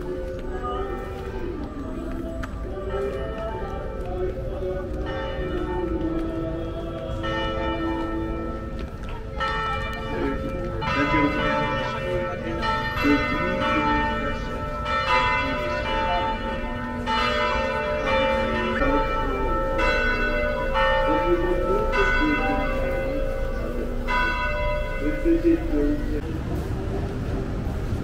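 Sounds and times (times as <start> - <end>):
bells ringing: 0.0 - 26.3.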